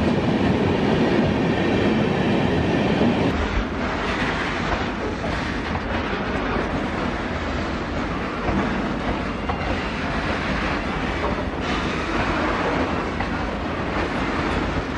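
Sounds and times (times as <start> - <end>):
freight train wheels rumbling: 0.0 - 14.9.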